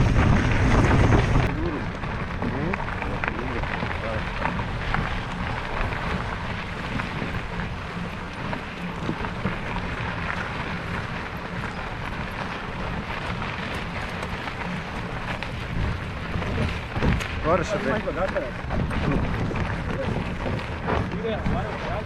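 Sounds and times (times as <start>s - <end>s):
rain falling: 0.0s - 22.0s
wind buffeting microphone: 0.0s - 22.0s.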